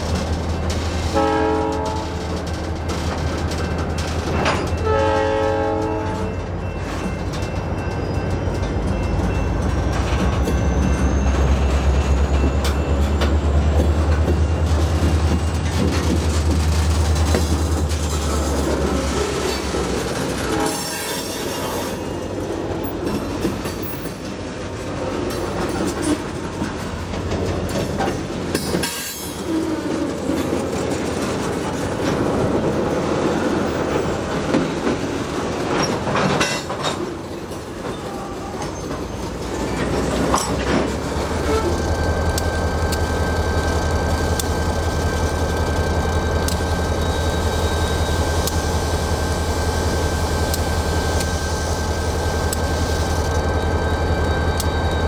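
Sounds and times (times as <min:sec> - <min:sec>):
diesel locomotive engine rumble: 0:00.0 - 0:55.0
train wheels clattering and squealing: 0:00.0 - 0:55.0.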